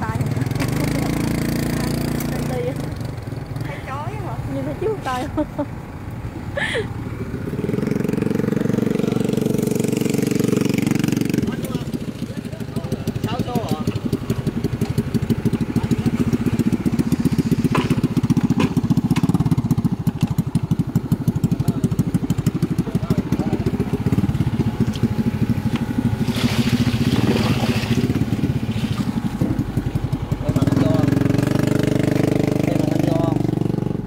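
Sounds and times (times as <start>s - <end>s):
small motorcycle engine running: 0.0s - 34.0s.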